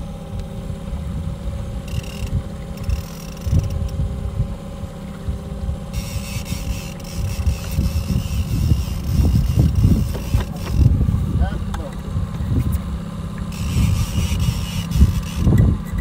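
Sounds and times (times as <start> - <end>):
wind on microphone: 0.0 - 12.9, 13.5 - 16.0
outboard motor droning: 0.0 - 16.0.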